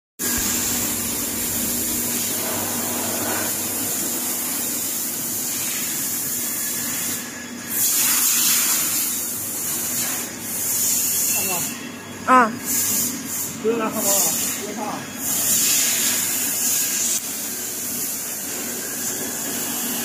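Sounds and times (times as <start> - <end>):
welding torch arc hissing: 0.2 - 11.8, 12.6 - 20.0.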